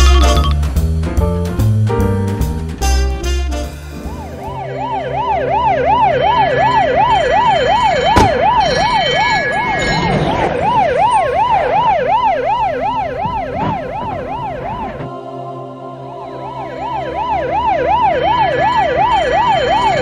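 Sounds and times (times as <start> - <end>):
ambulance siren yelping: 3.9 - 20.0.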